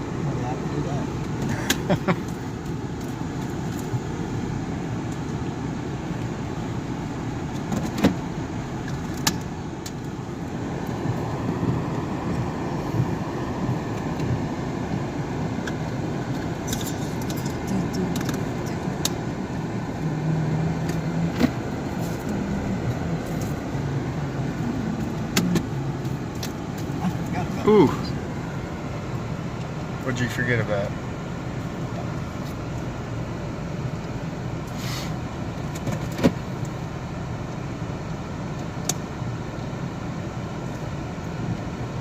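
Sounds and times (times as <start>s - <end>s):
road and engine noise in car: 0.0s - 42.0s.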